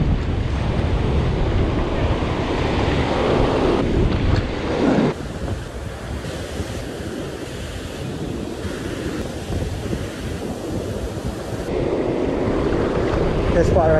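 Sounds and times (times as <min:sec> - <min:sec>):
ocean surf breaking: 0:00.0 - 0:13.9
wind buffeting microphone: 0:00.0 - 0:13.9.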